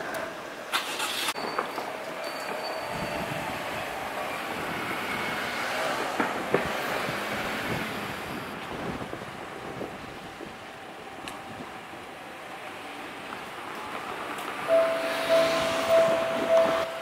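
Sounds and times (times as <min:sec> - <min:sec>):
street traffic: 0:00.0 - 0:17.0
trains rumbling: 0:00.0 - 0:17.0.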